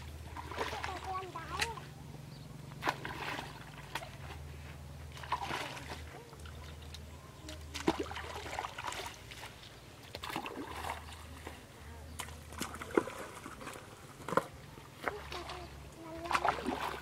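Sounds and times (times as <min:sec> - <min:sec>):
muddy water splashing: 0:00.0 - 0:17.0.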